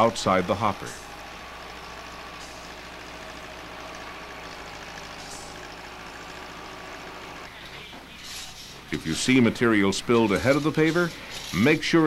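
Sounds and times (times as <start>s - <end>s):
heavy diesel engines running: 0.0s - 12.0s.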